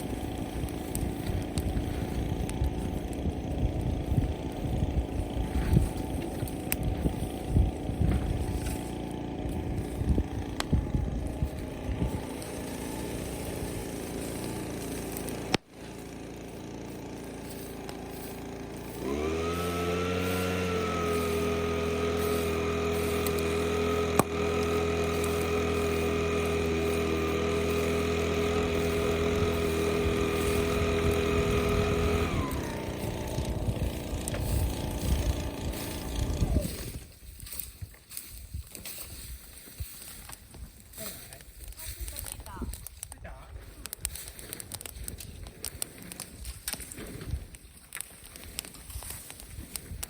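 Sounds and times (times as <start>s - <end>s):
engine running: 0.0s - 50.0s.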